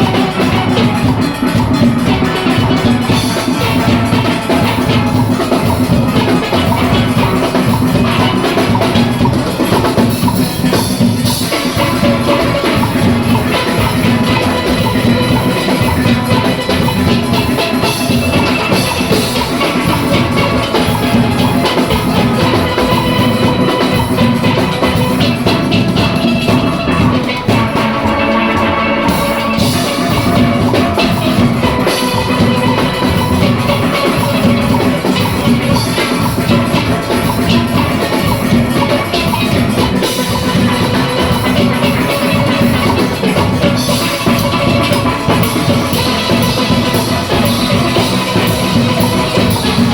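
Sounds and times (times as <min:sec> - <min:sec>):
steel band playing with drums: 0:00.0 - 0:49.9.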